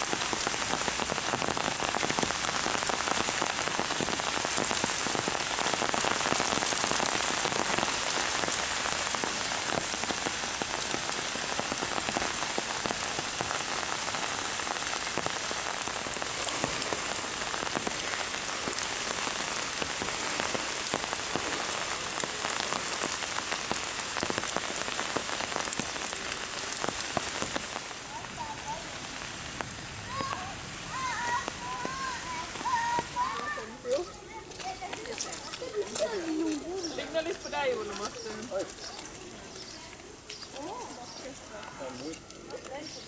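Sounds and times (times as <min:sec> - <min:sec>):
heavy rain pouring: 0:00.0 - 0:40.8.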